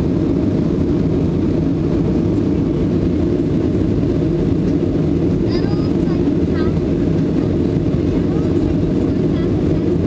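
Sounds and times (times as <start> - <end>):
jet airliner cabin engine noise: 0.0 - 10.0.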